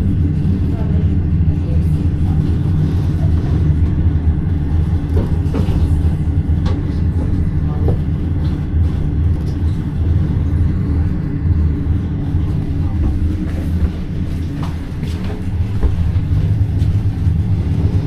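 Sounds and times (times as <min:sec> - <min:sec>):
train rumbling from inside carriage: 0:00.0 - 0:18.0.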